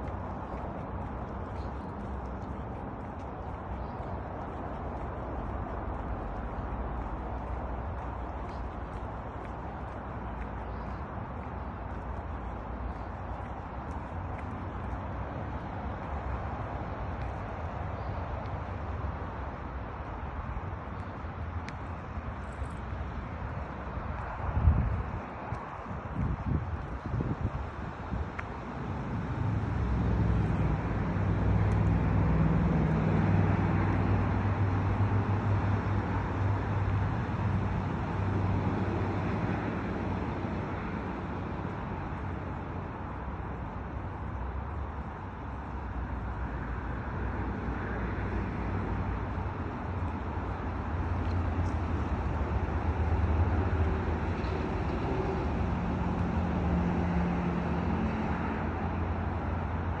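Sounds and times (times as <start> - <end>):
distant road traffic rumble: 0.0 - 60.0.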